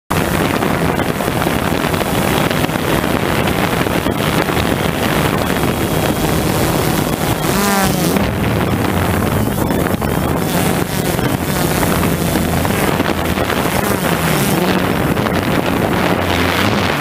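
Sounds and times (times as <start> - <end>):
drone motors and propellers: 0.1 - 17.0
wind buffeting microphone: 0.1 - 17.0.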